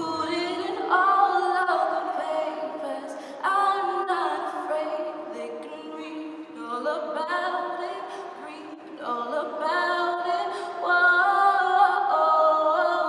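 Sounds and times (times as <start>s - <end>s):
a cappella voices singing: 0.0s - 13.0s.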